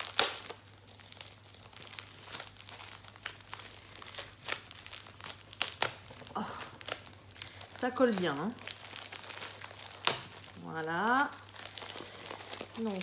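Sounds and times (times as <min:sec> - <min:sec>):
envelope crinkling and rustling: 0:00.0 - 0:13.0.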